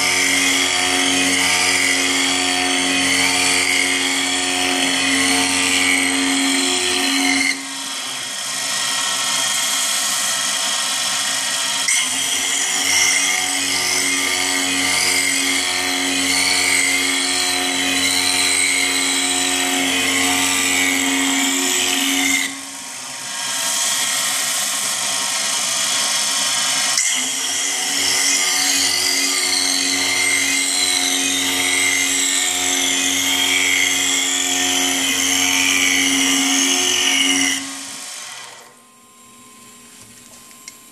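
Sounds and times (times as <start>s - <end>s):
high-pitched milling cutting whine: 0.0s - 40.9s.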